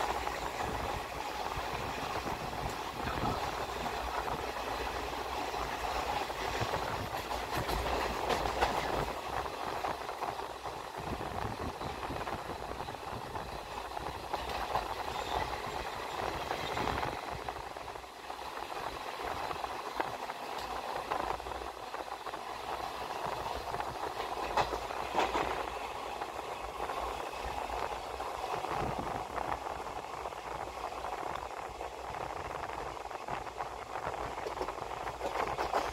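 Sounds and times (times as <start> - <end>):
train coaches rumbling and rattling: 0.0 - 35.9.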